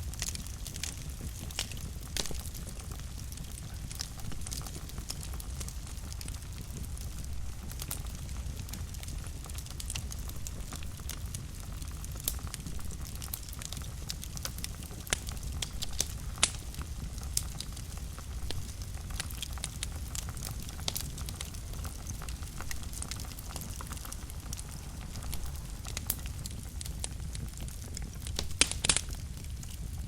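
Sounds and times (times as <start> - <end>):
fire crackling and popping: 0.0 - 30.0
fire flames rumbling: 0.0 - 30.0.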